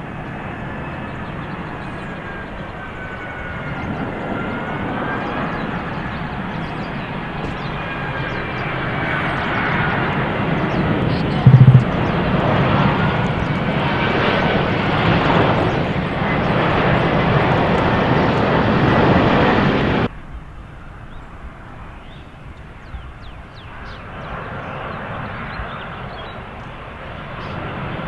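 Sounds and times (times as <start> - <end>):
loud airplane engine: 0.0 - 20.1, 22.9 - 28.0.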